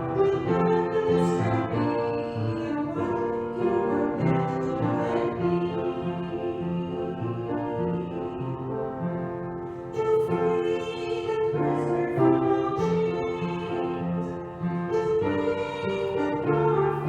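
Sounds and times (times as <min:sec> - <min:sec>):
slow church music: 0:00.0 - 0:17.0.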